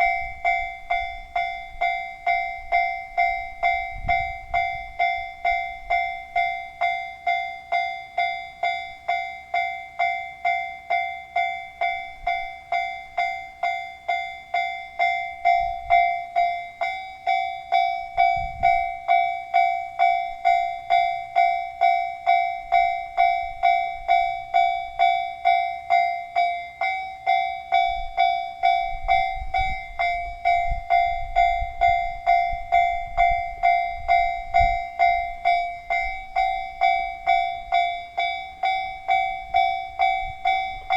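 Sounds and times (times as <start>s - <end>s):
level crossing warning bell ringing: 0.0s - 40.9s.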